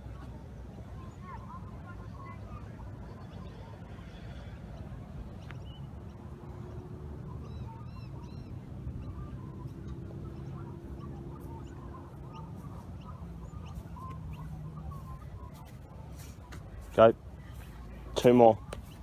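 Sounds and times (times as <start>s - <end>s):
low outdoor rumble: 0.0s - 19.0s
birds calling: 0.1s - 19.0s.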